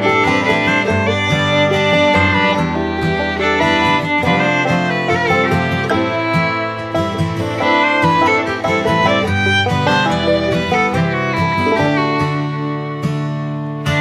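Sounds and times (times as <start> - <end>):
upbeat fiddle tune: 0.0 - 14.0.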